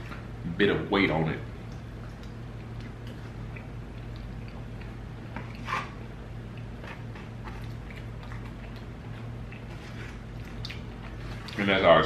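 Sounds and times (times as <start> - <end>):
steady low hum: 0.0 - 12.0
man chewing food: 1.6 - 11.6.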